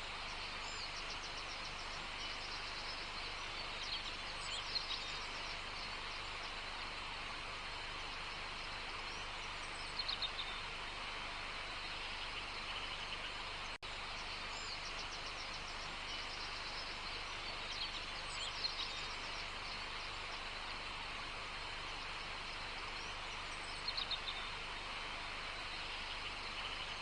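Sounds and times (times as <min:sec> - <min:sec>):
small birds chirping and trilling: 0:00.0 - 0:27.0
steady hiss: 0:00.0 - 0:27.0.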